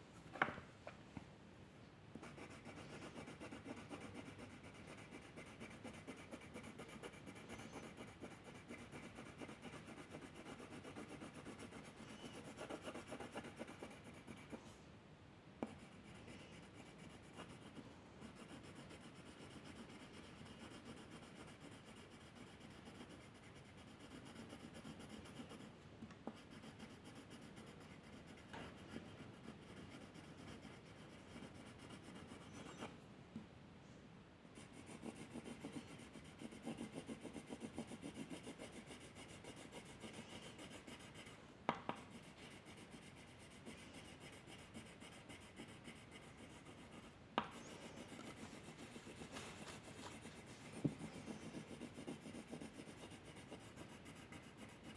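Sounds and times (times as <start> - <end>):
pencil scratching on paper: 2.2 - 14.7, 15.6 - 33.0, 34.6 - 41.4, 42.0 - 54.9.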